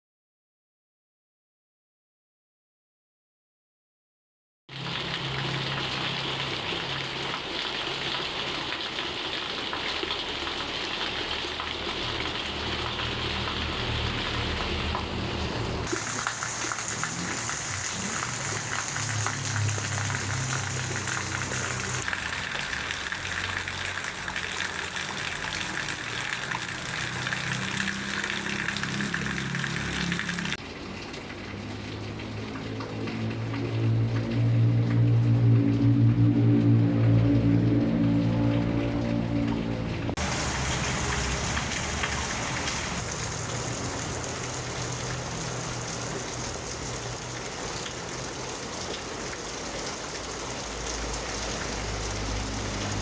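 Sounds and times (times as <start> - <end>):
heavy rain falling: 4.7 - 53.0.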